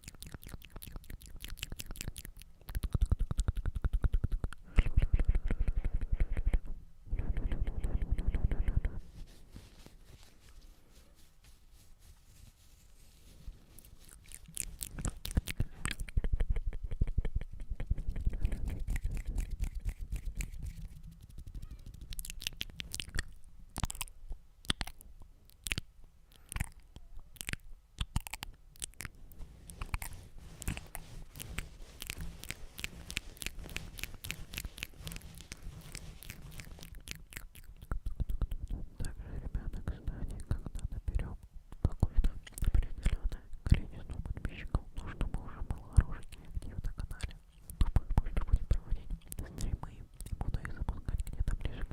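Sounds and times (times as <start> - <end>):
tongue and lip clicks: 0.0 - 9.0, 14.0 - 51.9.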